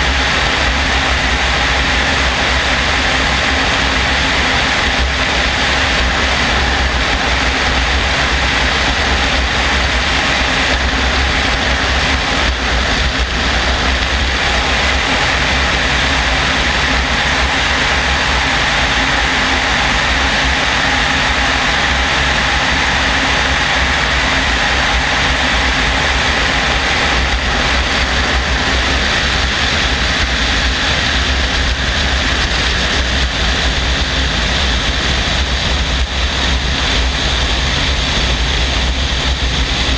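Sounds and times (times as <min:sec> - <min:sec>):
helicopter rotor and engine: 0:00.0 - 0:39.9
wind rushing over microphone: 0:00.0 - 0:39.9.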